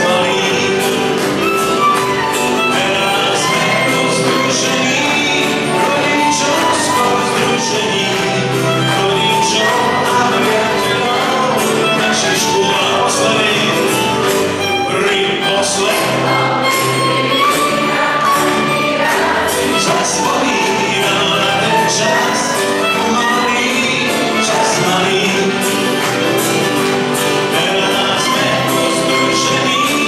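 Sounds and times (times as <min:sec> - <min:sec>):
acoustic guitar: 0:00.0 - 0:30.0
live band music: 0:00.0 - 0:30.0
man singing: 0:00.0 - 0:30.0
violin: 0:00.0 - 0:30.0.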